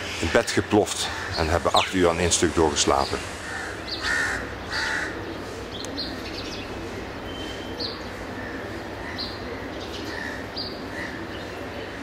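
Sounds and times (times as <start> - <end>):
birds chirping: 0.0 - 12.0
city background hum: 0.0 - 12.0.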